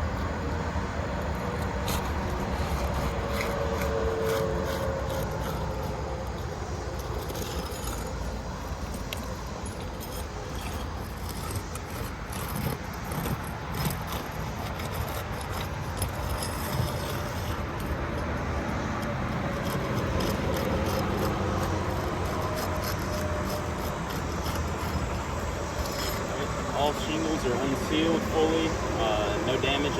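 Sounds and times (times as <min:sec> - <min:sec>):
shingles scraping and crackling: 0:00.0 - 0:29.9.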